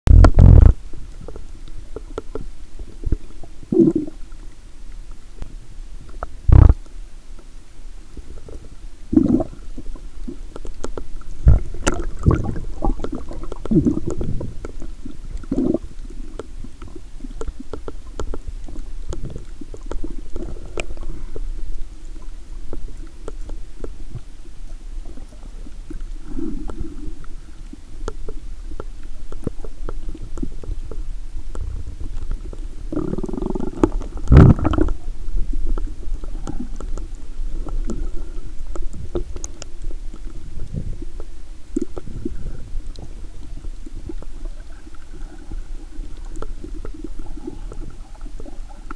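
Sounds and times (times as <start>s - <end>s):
underwater water rumble: 0.1s - 48.9s
faint clicks: 0.2s - 3.6s, 8.2s - 48.9s
water swish: 0.2s - 48.9s.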